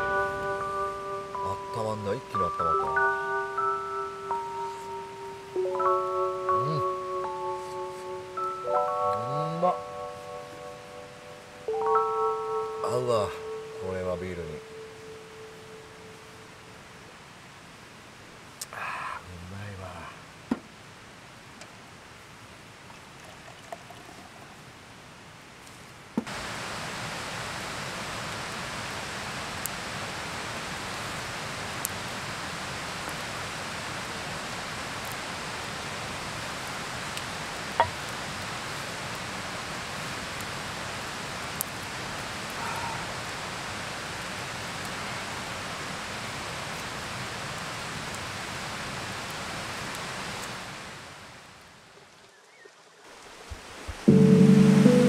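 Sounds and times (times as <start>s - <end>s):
campfire hissing: 0.0s - 55.0s.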